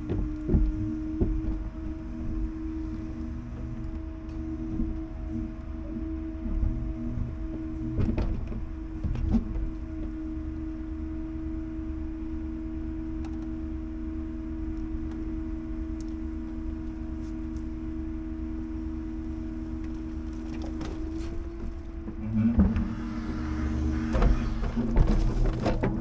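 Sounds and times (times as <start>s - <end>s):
truck engine humming: 0.0s - 26.0s.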